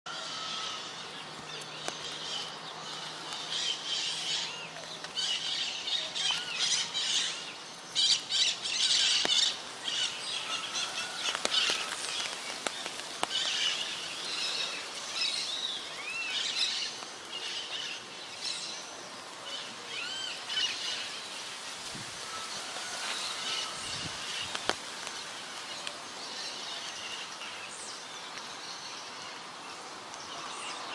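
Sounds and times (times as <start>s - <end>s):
birds chirping and calling: 0.1s - 29.4s.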